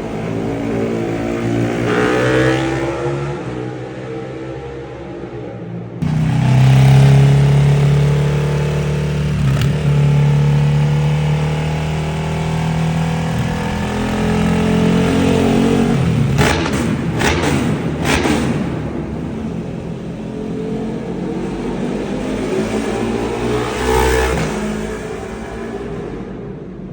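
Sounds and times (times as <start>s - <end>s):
motorcycle engine roaring: 0.0s - 26.9s.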